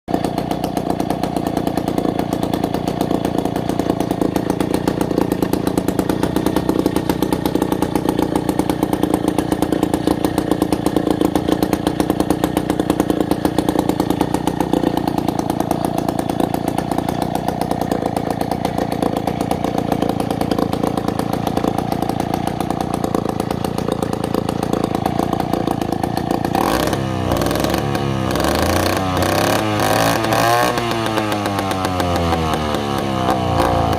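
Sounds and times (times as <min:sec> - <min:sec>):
chainsaw engine revving: 0:00.1 - 0:33.9.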